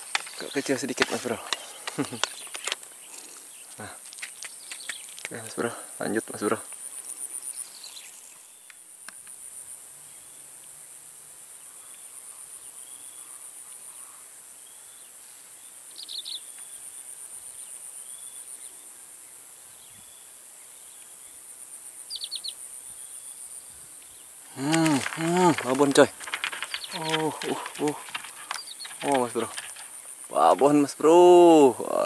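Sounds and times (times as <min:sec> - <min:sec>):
insects pulsing trill: 0:00.0 - 0:32.0.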